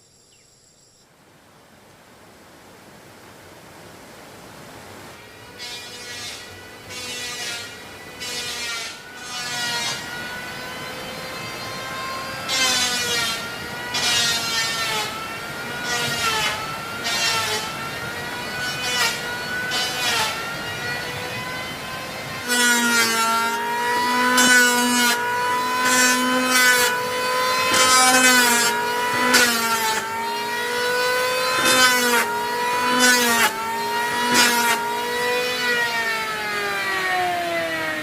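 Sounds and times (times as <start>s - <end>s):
chainsaw cutting wood: 5.4s - 38.0s.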